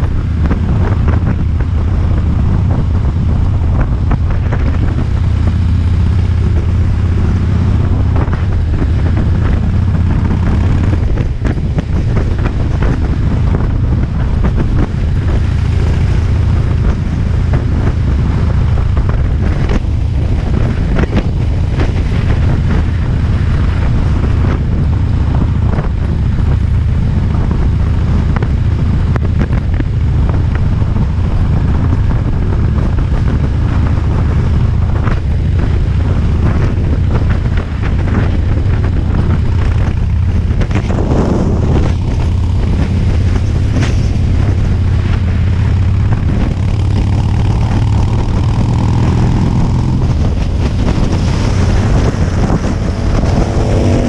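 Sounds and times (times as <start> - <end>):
motorcycle engine droning: 0.0 - 54.0
wind noise on microphone: 0.0 - 54.0.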